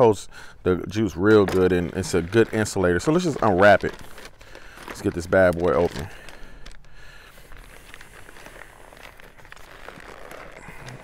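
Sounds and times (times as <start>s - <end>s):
paper rustling and crinkling: 1.1s - 11.0s.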